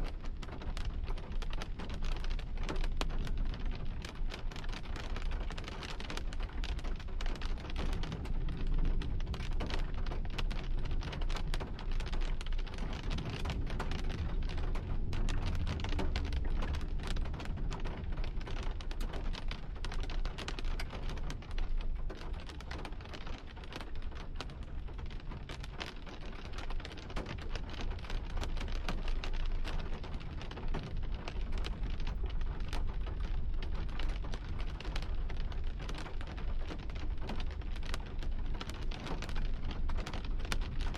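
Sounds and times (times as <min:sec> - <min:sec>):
heavy rain on hard surface: 0:00.0 - 0:40.9
low rumble: 0:00.1 - 0:40.9.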